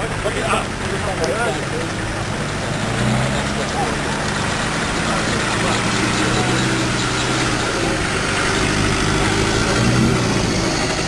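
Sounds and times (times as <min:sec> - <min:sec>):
diesel engine running at low revs: 0:00.0 - 0:11.0
vehicle body and drivetrain noise: 0:00.0 - 0:11.0.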